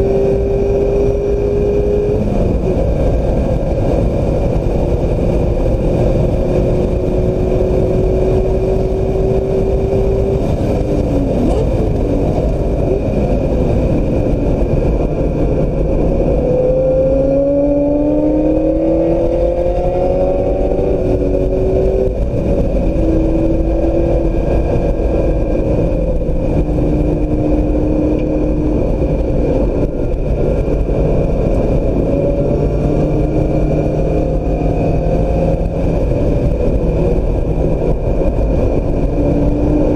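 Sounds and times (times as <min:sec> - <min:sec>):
car engine accelerating: 0:00.0 - 0:39.9
low road noise: 0:00.0 - 0:39.9.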